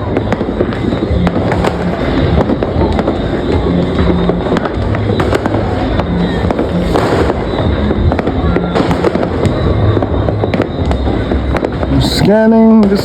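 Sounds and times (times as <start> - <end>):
firecrackers and fireworks bangs: 0.0 - 13.0
music playing: 0.0 - 13.0.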